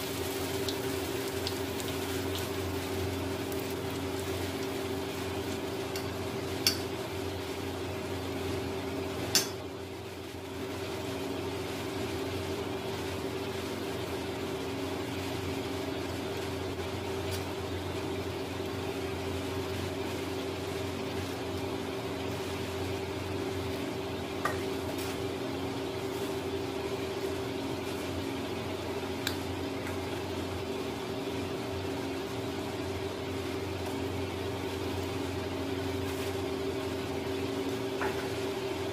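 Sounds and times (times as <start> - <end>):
spices sizzling in hot oil: 0.0 - 38.9
steady background hum: 0.0 - 38.9.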